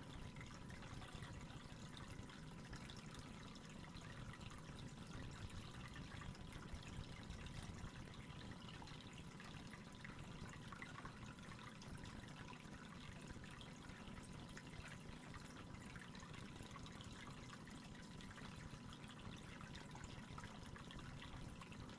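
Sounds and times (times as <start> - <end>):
aquarium water trickling and dripping: 0.0 - 21.9
faint steady tone: 0.0 - 21.9.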